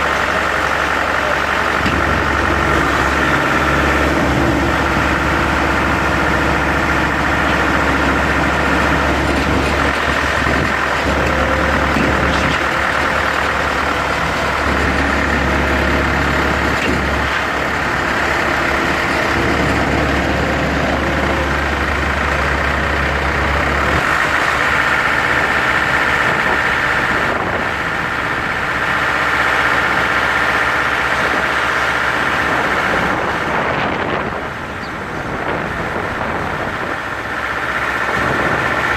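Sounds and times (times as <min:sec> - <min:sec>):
engine running: 0:00.0 - 0:38.9
steady mechanical noise: 0:00.0 - 0:38.9.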